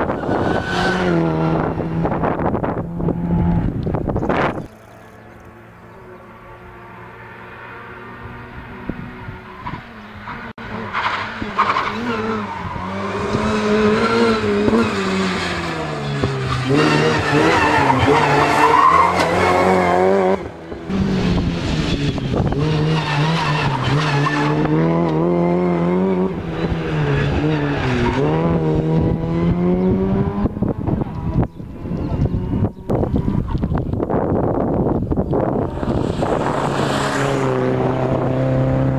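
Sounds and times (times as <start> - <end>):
rally car engines at high revs: 0.0 - 5.9, 6.8 - 38.9.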